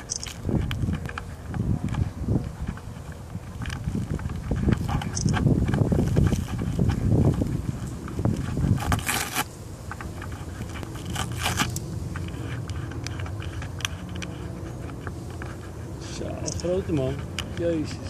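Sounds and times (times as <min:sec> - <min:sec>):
scattered clicks: 0:00.0 - 0:07.0, 0:09.2 - 0:18.0
microphone handling noise: 0:00.0 - 0:15.0
low wind rumble: 0:00.0 - 0:18.0.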